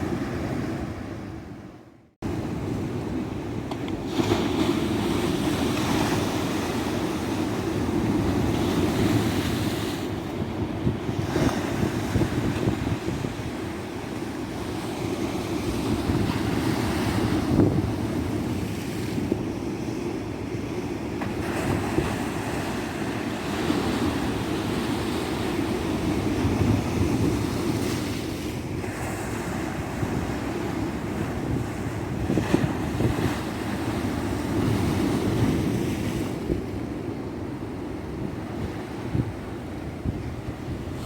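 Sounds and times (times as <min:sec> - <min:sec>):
wind buffeting microphone: 0:02.2 - 0:19.6, 0:21.2 - 0:41.0.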